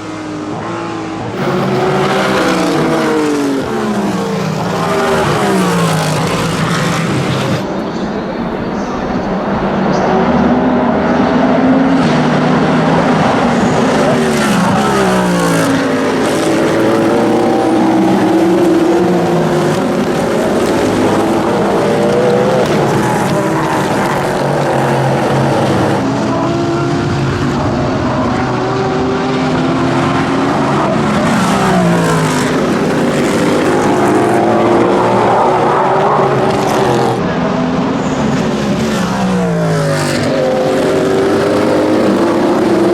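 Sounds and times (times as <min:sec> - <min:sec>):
gear changes: 0:00.0 - 0:42.9
race cars passing at speed: 0:00.0 - 0:42.9.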